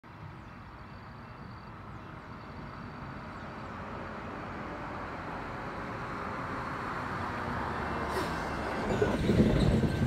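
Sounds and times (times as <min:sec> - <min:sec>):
approaching train rumble: 0:00.4 - 0:10.0.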